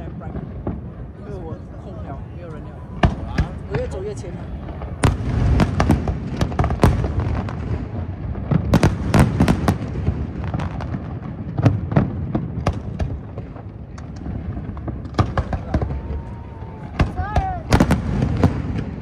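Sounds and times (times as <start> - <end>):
fireworks bangs and pops: 0.0 - 2.1, 2.9 - 19.0.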